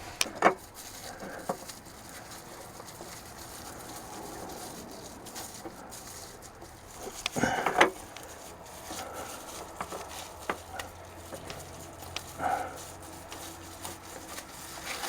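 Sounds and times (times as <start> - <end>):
fuel filter clicking and clattering: 0.0 - 15.0.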